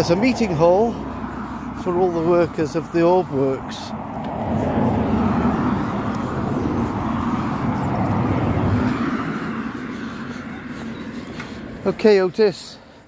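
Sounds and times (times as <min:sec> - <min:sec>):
vehicle driving past: 0:00.0 - 0:12.0.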